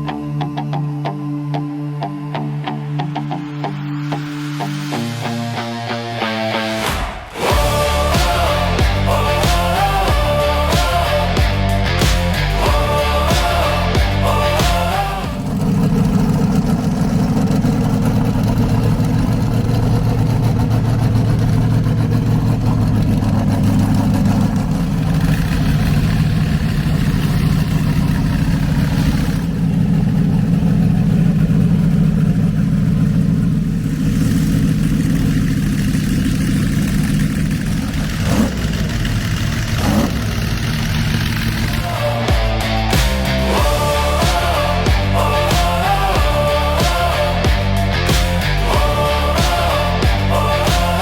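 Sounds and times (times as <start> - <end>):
tractor engine running hard: 6.7 - 51.0.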